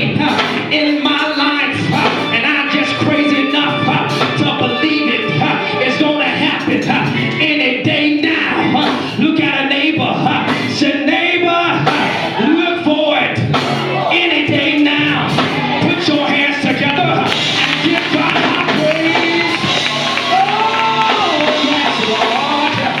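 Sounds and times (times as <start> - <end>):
church praise music: 0.0 - 23.0
voices singing and shouting: 0.0 - 23.0.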